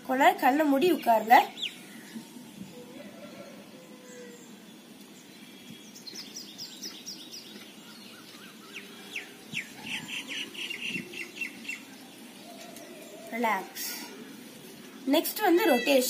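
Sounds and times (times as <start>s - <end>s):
faint background noise: 0.0s - 16.0s
bird chirping: 0.4s - 15.2s.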